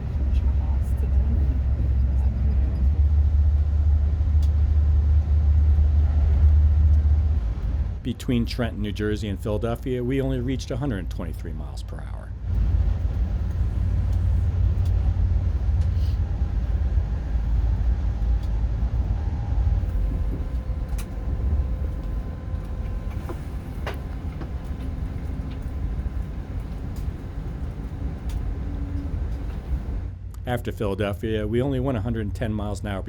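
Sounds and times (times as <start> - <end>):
train running at speed: 0.0 - 33.0.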